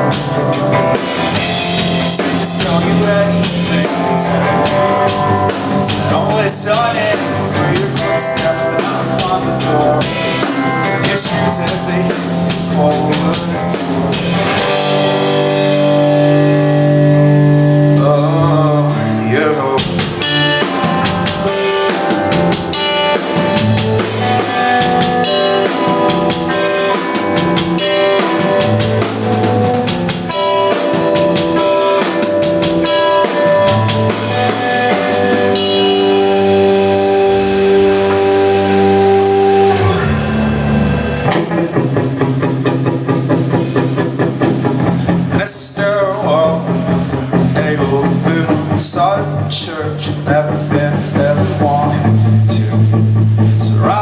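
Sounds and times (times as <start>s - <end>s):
drum kit playing: 0.0s - 54.0s
electric guitar chords: 0.0s - 54.0s.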